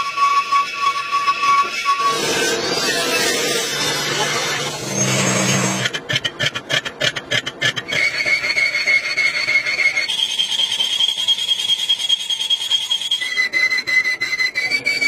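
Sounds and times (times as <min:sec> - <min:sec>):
lathe tool squealing on metal: 0:00.0 - 0:15.0.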